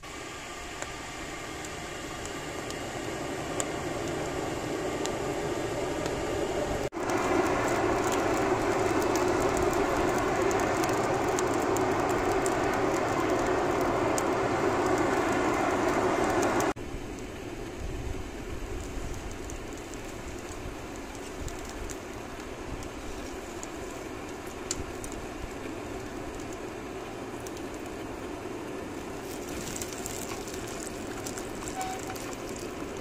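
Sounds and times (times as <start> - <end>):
crackles and popping sparks: 0.0 - 33.0
forge fire roaring: 0.0 - 33.0.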